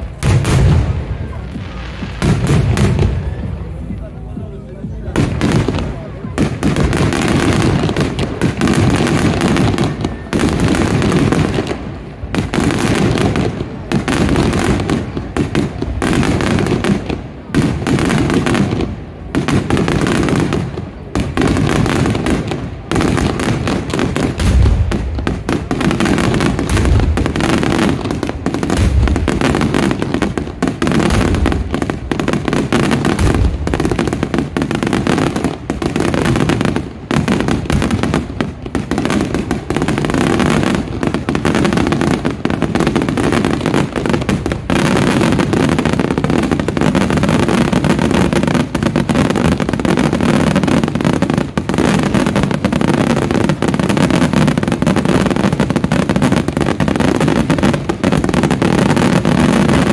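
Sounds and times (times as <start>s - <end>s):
deep fireworks booms: 0.0s - 59.9s
fireworks bangs and crackling: 0.0s - 59.9s.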